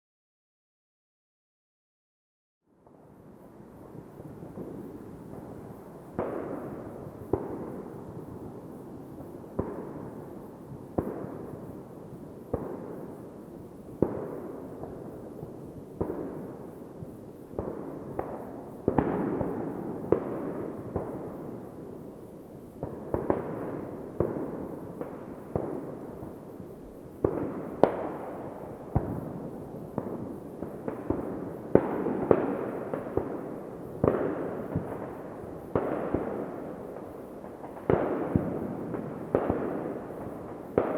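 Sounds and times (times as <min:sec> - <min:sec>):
distant fireworks crackling: 0:02.8 - 0:40.9
fireworks bangs: 0:04.0 - 0:13.2, 0:13.9 - 0:22.0, 0:22.8 - 0:40.9.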